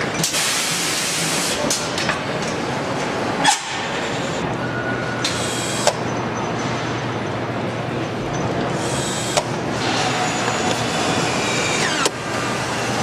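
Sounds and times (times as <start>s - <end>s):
factory machinery noise: 0.0s - 13.0s.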